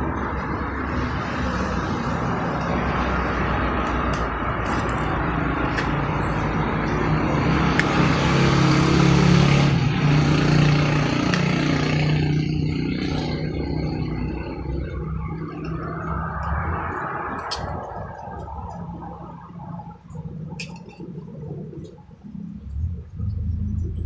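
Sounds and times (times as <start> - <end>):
vehicle engine passing by: 0.0 - 20.5.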